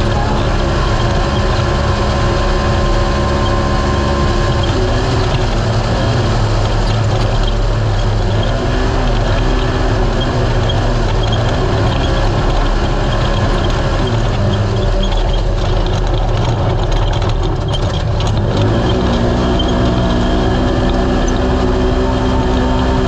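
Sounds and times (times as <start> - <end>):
race car engine revving: 0.0 - 23.0
rush of driving noise: 0.0 - 23.0.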